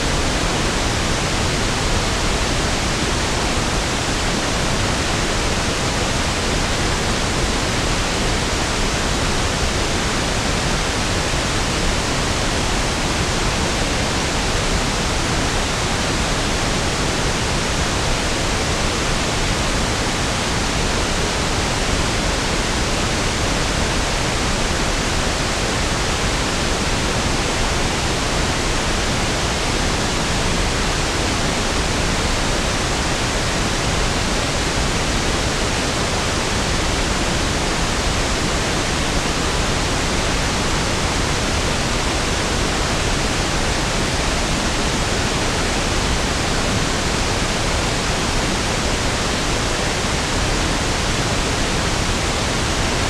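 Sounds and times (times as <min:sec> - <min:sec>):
pink noise hiss: 0:00.0 - 0:53.0.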